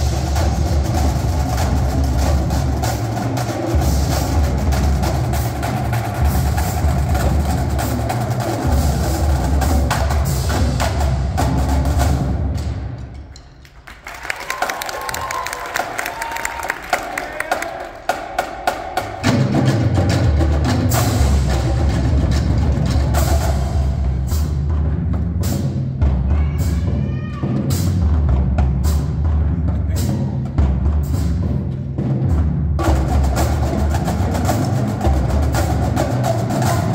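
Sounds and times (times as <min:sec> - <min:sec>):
bass drums: 0:00.0 - 0:13.4, 0:18.1 - 0:36.9
cymbals: 0:00.0 - 0:14.6, 0:16.0 - 0:36.9
snare drums: 0:00.0 - 0:36.9
tenor drums: 0:00.0 - 0:36.9.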